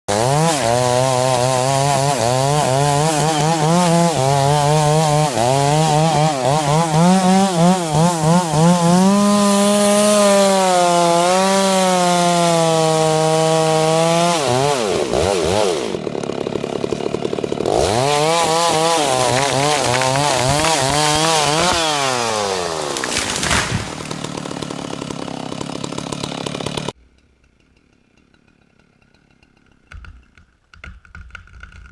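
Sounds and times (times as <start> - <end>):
chainsaw cutting wood: 0.1 - 31.9.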